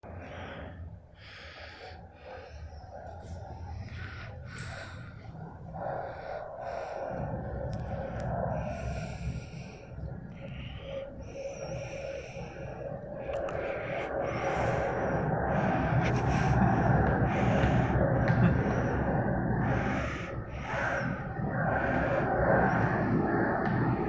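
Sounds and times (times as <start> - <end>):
train rumbling in tunnel: 0.0 - 24.0.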